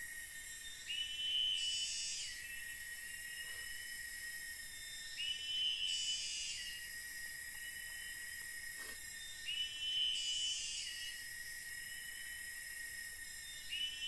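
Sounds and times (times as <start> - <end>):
insects droning: 0.0 - 14.0
repeating insect call: 0.0 - 14.0.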